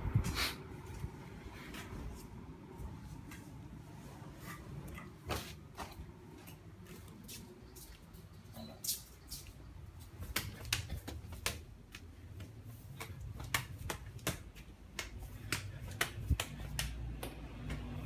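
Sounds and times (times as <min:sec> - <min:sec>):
footsteps on tiled floor: 0:00.2 - 0:18.0.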